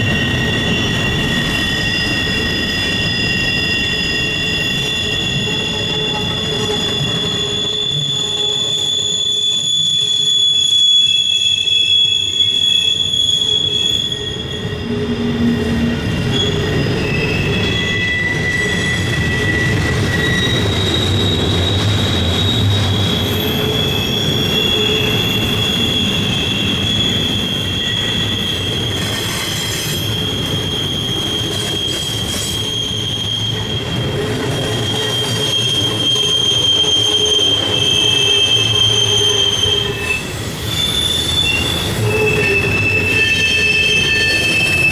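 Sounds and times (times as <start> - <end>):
train wheel rumble: 0.0 - 9.2, 12.9 - 44.9
wheel flange squeal: 0.0 - 44.9.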